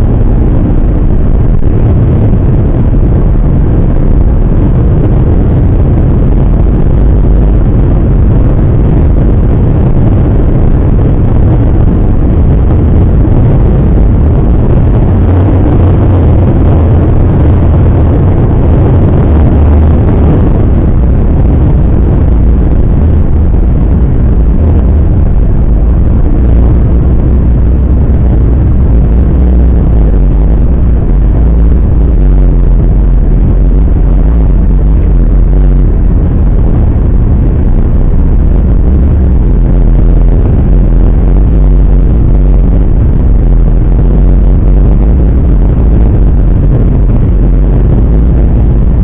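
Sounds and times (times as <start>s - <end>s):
car road and wind rumble: 0.0s - 49.0s.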